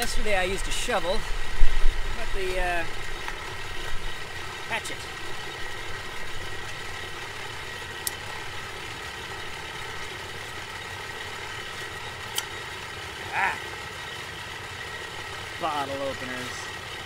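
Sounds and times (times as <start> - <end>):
air blower humming and whining: 0.0 - 17.0.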